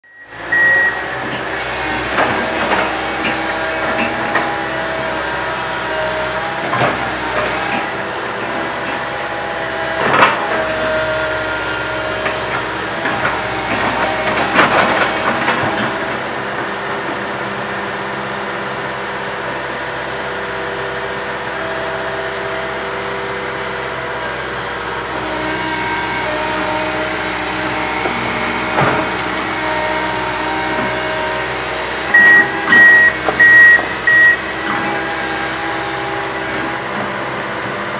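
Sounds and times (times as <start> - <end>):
excavator diesel engine: 0.0 - 37.9
hydraulic whine: 0.0 - 37.9.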